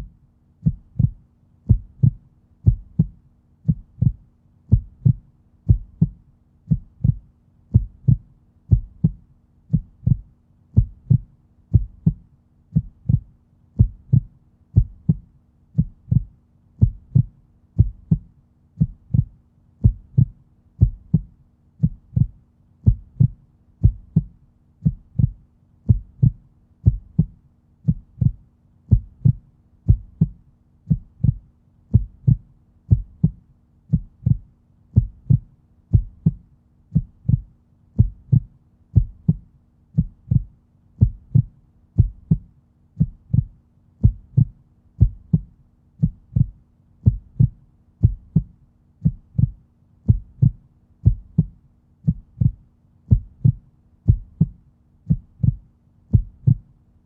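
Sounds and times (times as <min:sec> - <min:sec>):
heartbeat thumps: 0:00.0 - 0:56.7
faint steady hum: 0:00.0 - 0:57.0.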